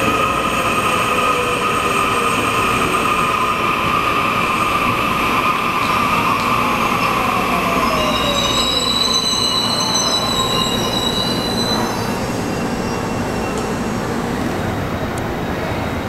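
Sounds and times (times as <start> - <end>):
train wheel squeal: 0.0 - 14.4.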